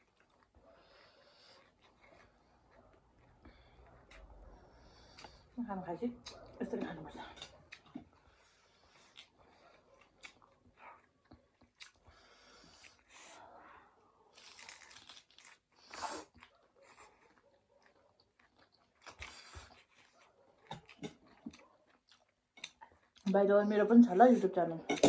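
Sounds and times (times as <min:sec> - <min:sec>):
person chewing and crunching food: 0:00.0 - 0:05.5, 0:07.2 - 0:23.4.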